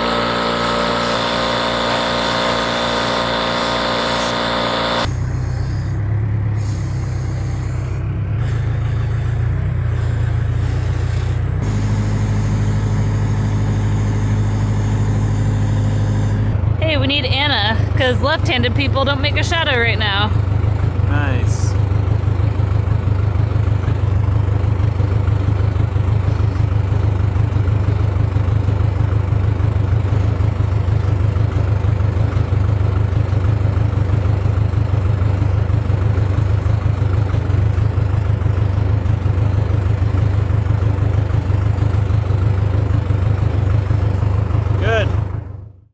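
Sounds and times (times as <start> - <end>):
engine droning steadily: 0.0 - 45.9.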